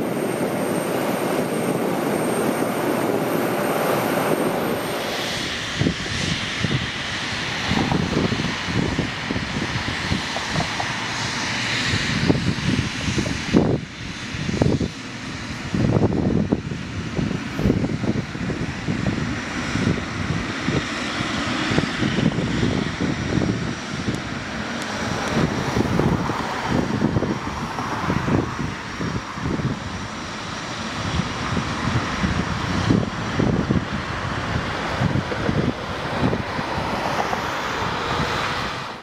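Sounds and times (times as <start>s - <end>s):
jet engines running: 0.0s - 39.0s
wind buffeting microphone: 0.0s - 39.0s.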